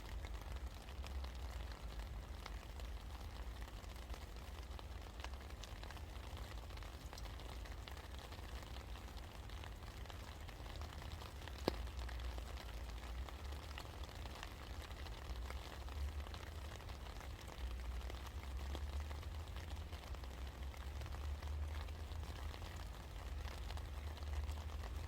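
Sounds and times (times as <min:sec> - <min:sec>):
rain falling: 0:00.0 - 0:25.0
raindrops ticking on surfaces: 0:00.0 - 0:25.0.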